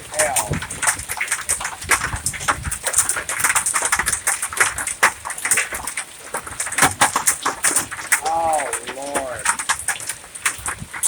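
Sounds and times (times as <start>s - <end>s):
hailstones hammering hard surfaces: 0.0s - 11.0s.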